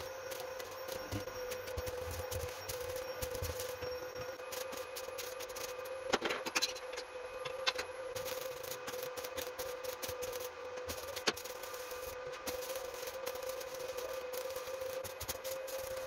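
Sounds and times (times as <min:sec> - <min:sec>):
arc welding crackle: 0:00.0 - 0:16.0
steady hum: 0:00.0 - 0:16.0.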